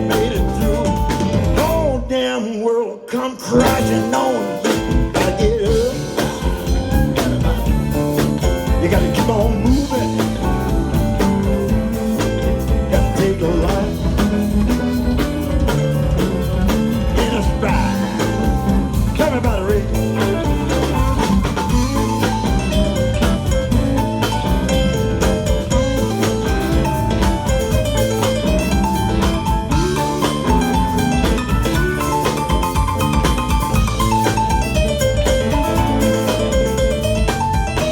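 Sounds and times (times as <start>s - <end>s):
blues band playing: 0.0s - 2.2s, 3.4s - 37.9s
bending lead guitar notes: 3.6s - 37.9s.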